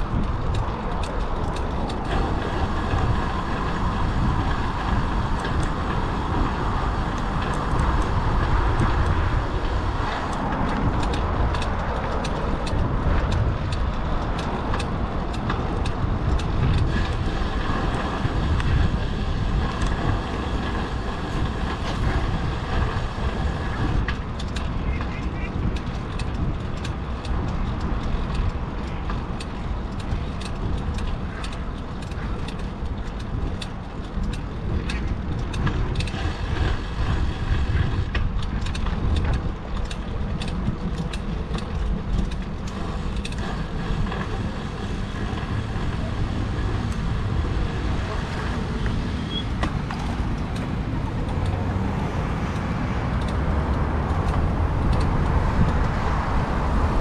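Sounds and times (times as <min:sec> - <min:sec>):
bicycle clicks and rattles: 0:00.0 - 0:57.0
road traffic rumble: 0:00.0 - 0:57.0.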